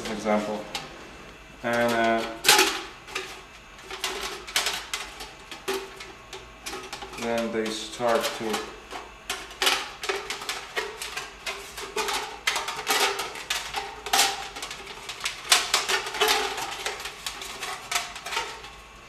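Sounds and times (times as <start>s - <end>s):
vent clattering against brick wall: 0.0s - 19.0s.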